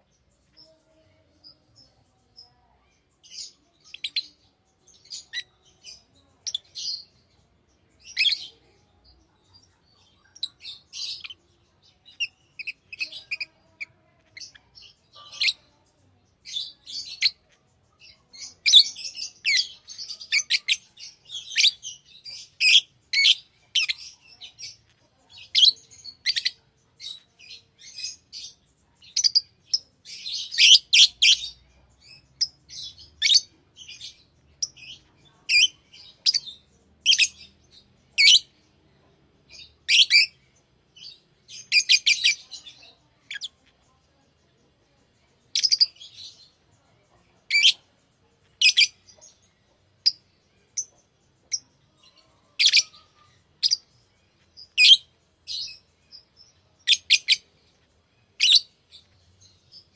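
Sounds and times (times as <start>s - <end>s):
lovebirds chirping: 0.0s - 59.9s.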